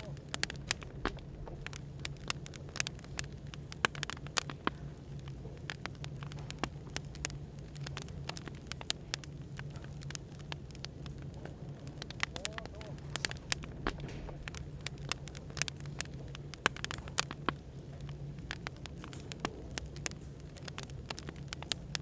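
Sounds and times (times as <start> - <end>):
low background hum: 0.0 - 22.0
wood fire crackling and popping: 0.0 - 22.0.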